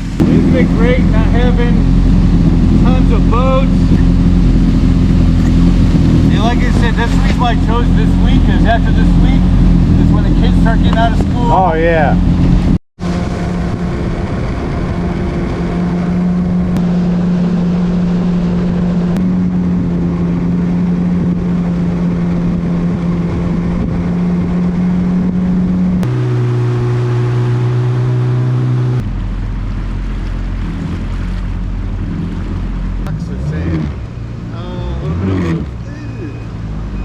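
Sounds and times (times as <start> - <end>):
jet ski engine running: 0.0 - 37.0
rushing water: 0.0 - 37.0
wind: 0.0 - 37.0.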